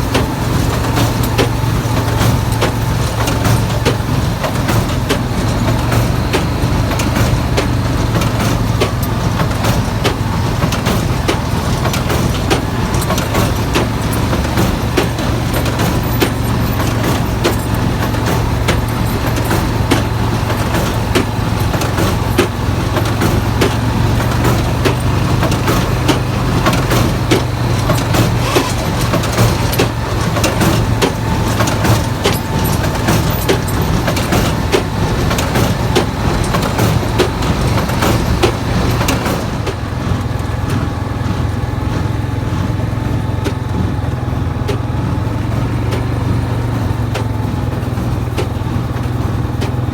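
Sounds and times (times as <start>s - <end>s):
hay baler clicks and rattles: 0.0s - 49.9s
tractor diesel engine drone: 0.0s - 49.9s.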